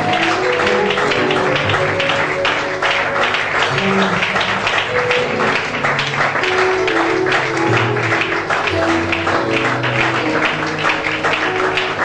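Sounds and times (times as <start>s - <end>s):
congregation clapping along: 0.0s - 12.0s.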